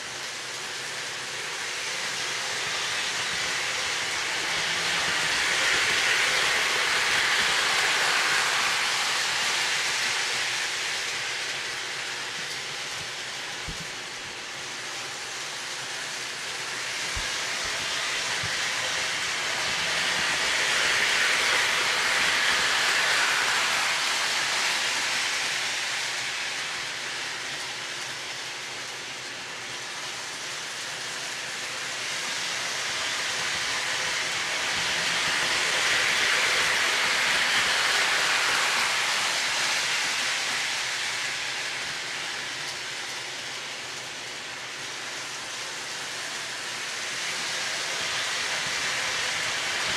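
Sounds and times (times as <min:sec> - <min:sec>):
model train rolling rumble: 0:00.0 - 0:49.9.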